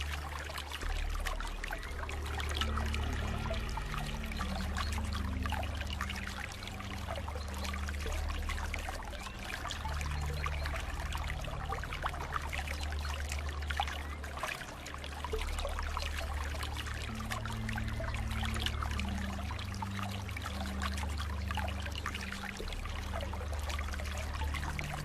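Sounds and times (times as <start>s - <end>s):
water flowing and trickling: 0.0s - 25.0s
water splashing and bubbling: 0.0s - 25.0s.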